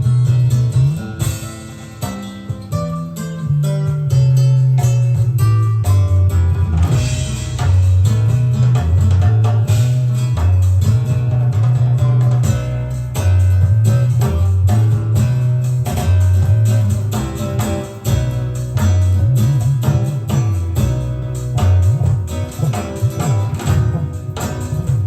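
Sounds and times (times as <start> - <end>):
song with guitar bass and drums: 0.0 - 25.0.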